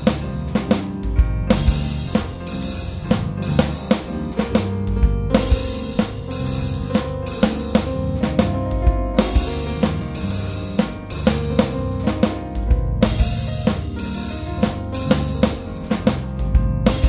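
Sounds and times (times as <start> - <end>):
instrumental music with drums: 0.0 - 17.0.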